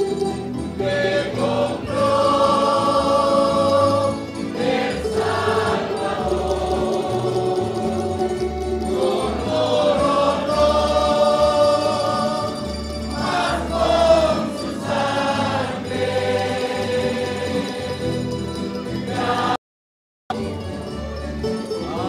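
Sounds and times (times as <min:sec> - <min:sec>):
instrumental accompaniment: 0:00.0 - 0:19.6, 0:20.3 - 0:22.0
choir singing a hymn: 0:00.1 - 0:18.3, 0:19.0 - 0:19.6, 0:21.8 - 0:22.0.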